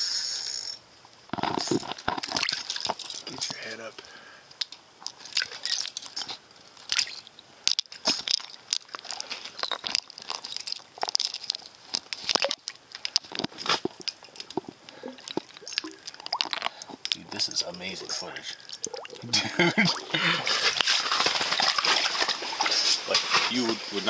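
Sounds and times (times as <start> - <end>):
fish thrashing in icy water: 1.6 - 3.4, 5.1 - 23.8.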